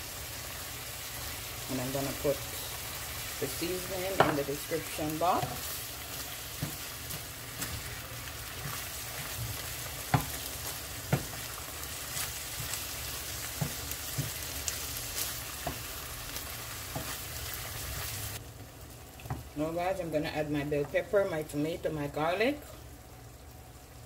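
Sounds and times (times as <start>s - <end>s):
meat sizzling in a frying pan: 0.0s - 21.4s.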